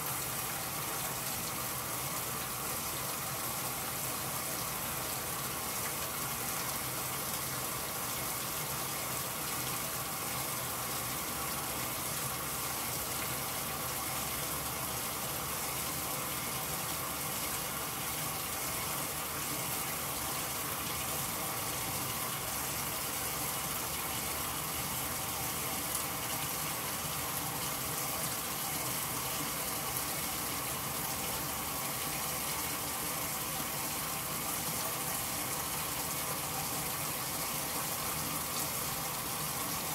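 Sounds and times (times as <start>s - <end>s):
water gushing into washer tub: 0.0s - 39.9s.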